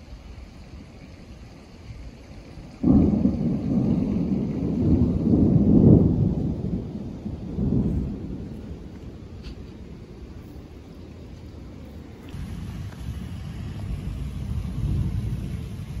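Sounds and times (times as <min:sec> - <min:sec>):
thunder crack and rumble: 0:00.0 - 0:11.6, 0:12.3 - 0:16.0.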